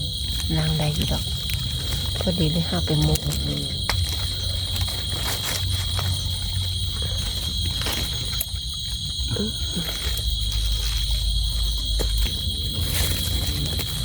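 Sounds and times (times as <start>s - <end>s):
crickets trilling: 0.0s - 14.0s
low rumble: 0.0s - 14.0s.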